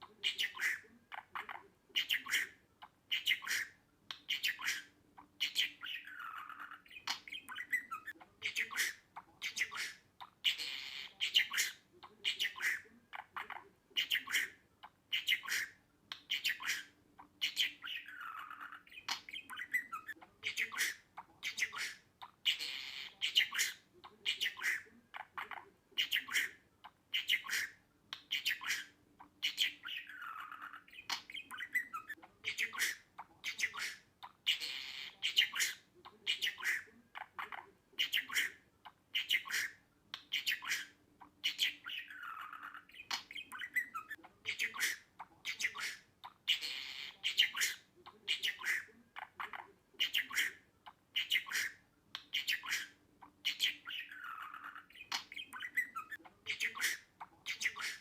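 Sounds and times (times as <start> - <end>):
budgerigar chirps and squawks: 0.0 - 58.0.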